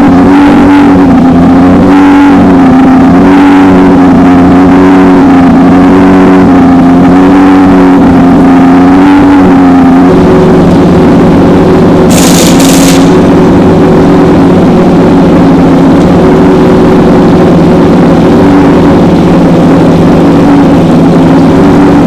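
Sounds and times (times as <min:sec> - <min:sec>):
race car engines running: 0:00.0 - 0:22.0.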